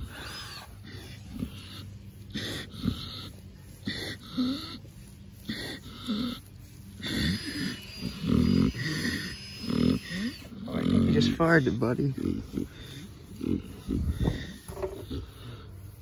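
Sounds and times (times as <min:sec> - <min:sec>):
pig snoring and wheezing: 0:00.0 - 0:16.0.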